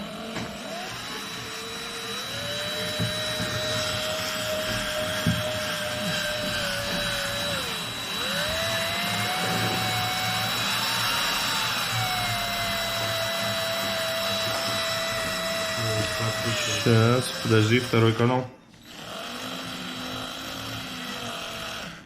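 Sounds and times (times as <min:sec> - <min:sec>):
electric drill boring: 0:00.0 - 0:22.0.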